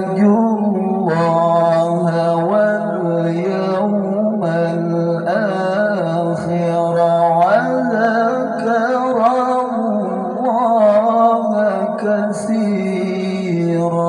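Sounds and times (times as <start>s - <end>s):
man reciting melodically through loudspeakers: 0.0s - 14.0s.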